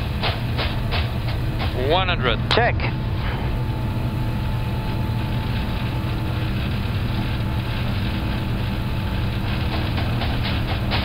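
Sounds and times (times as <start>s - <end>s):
jet engines at takeoff thrust: 0.0s - 11.0s
wheels running on runway: 0.0s - 11.0s.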